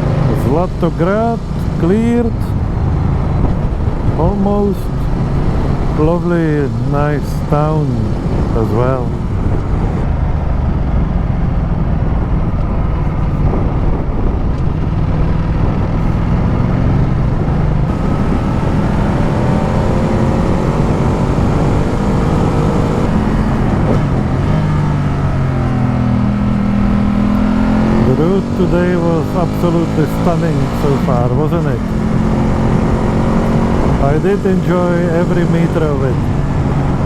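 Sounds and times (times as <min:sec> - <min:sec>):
motorcycle engine pulling: 0:00.0 - 0:37.0
wind noise on microphone: 0:00.0 - 0:37.0.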